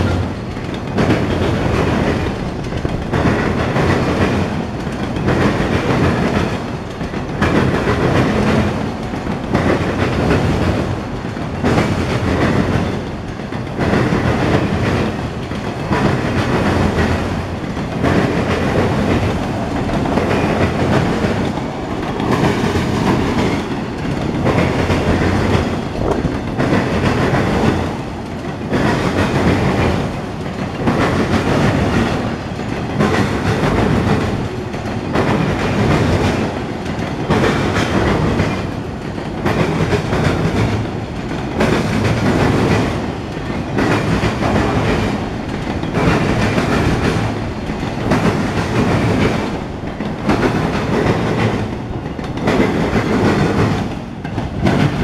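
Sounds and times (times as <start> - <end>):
freight train cars rolling past: 0.0 - 55.0
wheels clacking over rail joints: 0.0 - 55.0.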